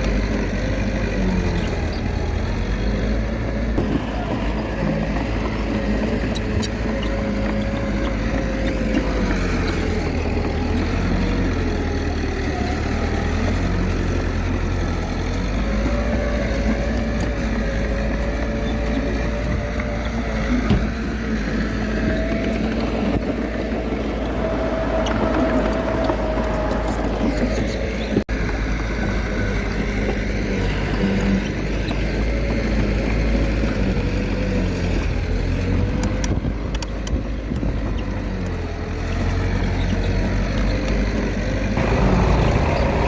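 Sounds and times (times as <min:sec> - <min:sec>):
wavering engine whine: 0:00.0 - 0:35.4, 0:41.3 - 0:43.0
bulldozer diesel engine running: 0:00.0 - 0:43.0.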